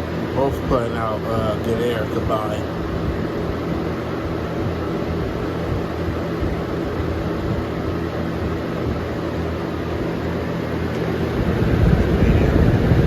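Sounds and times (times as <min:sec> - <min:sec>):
box fans blowing air: 0:00.0 - 0:13.0
fluctuating low rumble: 0:00.0 - 0:13.0.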